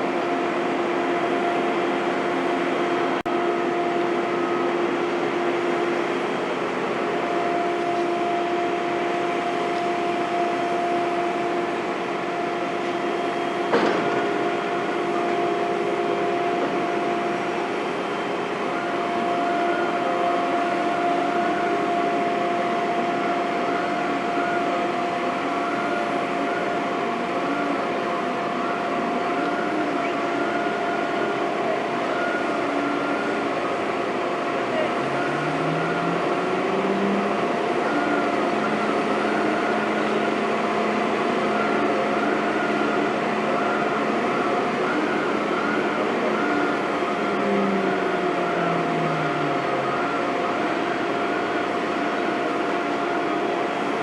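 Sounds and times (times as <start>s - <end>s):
heavy construction machinery droning: 0.0s - 54.0s.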